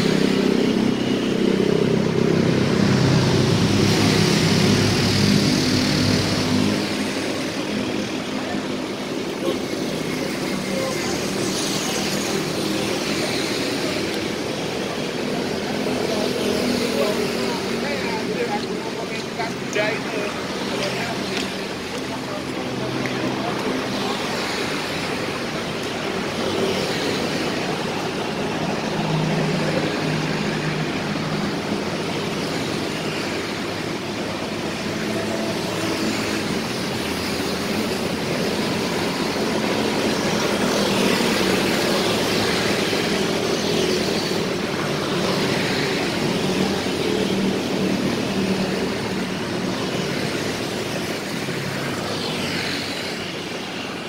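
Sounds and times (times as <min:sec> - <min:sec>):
motorbikes and cars passing: 0:00.0 - 0:54.0.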